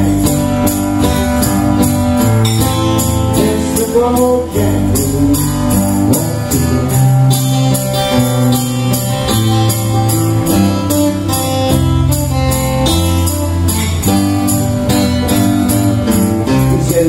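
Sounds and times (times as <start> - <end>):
acoustic guitars strummed: 0.0 - 17.0.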